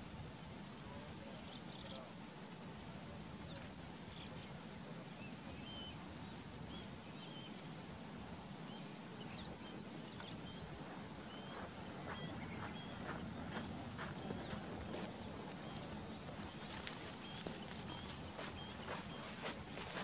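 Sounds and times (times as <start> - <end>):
wild birds chirping and whistling: 0.5 - 2.6, 3.3 - 20.0.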